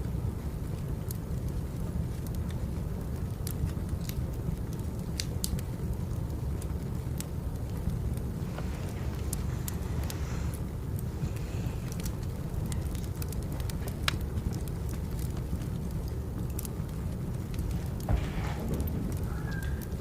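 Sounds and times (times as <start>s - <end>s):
sharp pops of fire: 0.0s - 20.0s
steady low rumble: 0.0s - 20.0s
wood fire crackling: 0.0s - 20.0s.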